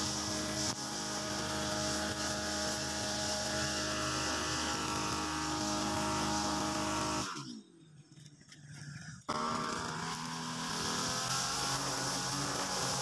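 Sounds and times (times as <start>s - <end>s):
brush cutter running: 0.0s - 7.5s, 9.3s - 13.0s
nylon line trimming grass: 0.0s - 7.6s, 8.8s - 13.0s.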